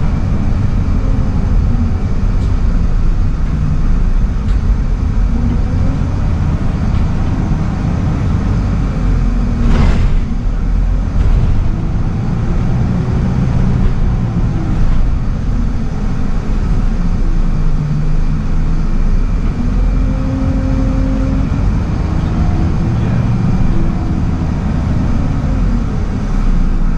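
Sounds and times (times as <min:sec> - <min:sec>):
bus diesel engine: 0:00.0 - 0:26.9
road rumble: 0:00.0 - 0:26.9.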